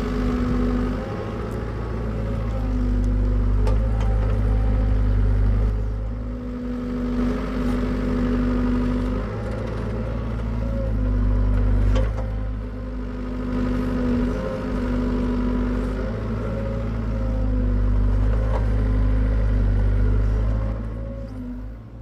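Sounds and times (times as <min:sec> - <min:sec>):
excavator diesel engine digging: 0:00.0 - 0:22.0.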